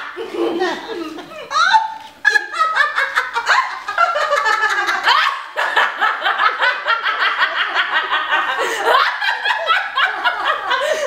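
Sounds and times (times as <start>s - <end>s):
women giggling: 0.0s - 11.0s.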